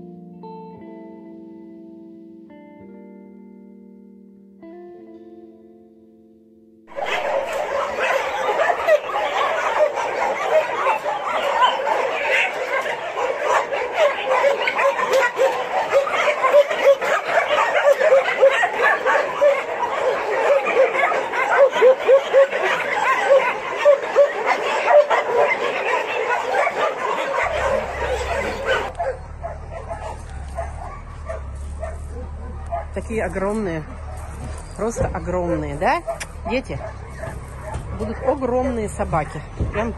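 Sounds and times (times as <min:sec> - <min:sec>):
puppies yipping and whining: 0:06.9 - 0:39.9.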